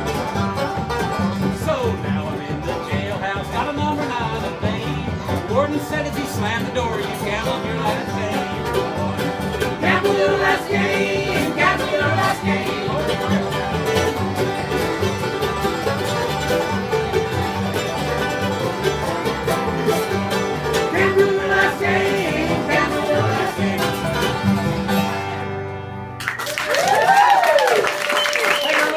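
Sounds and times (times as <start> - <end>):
string band playing: 0.0 - 26.4.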